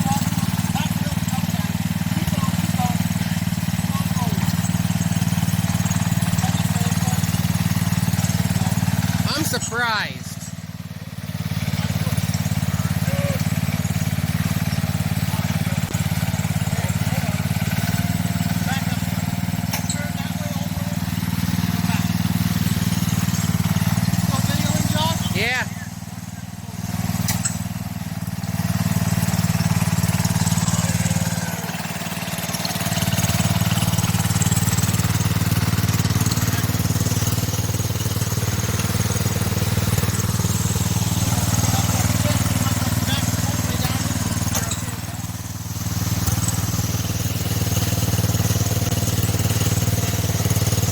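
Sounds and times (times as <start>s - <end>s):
lawn tractor engine running: 0.0s - 50.9s.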